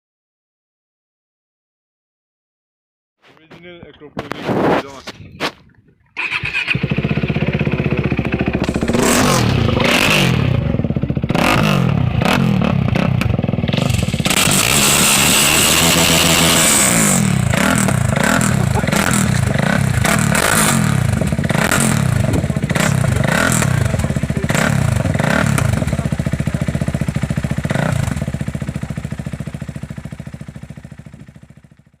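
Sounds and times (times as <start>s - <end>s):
motorcycle engine revving: 6.2s - 32.0s.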